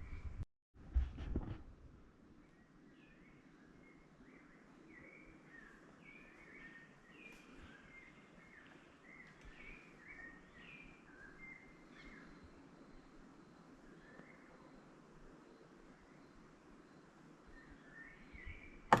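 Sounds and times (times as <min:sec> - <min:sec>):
faint bird chirping: 0:02.2 - 0:19.0.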